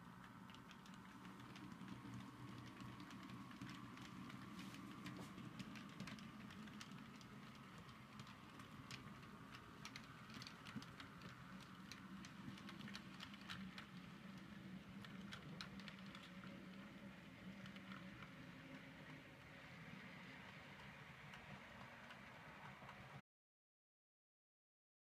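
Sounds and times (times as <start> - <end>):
model train wheels clicking: 0.0 - 23.2.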